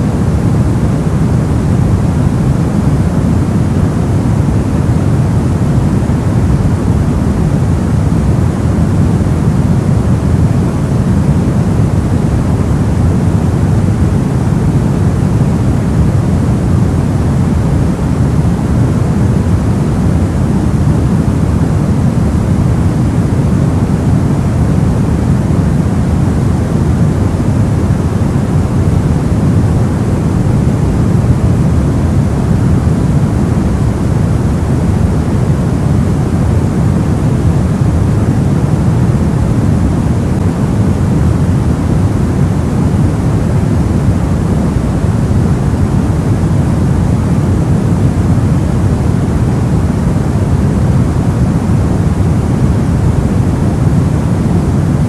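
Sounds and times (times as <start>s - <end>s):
deep white noise hiss: 0.0s - 55.0s.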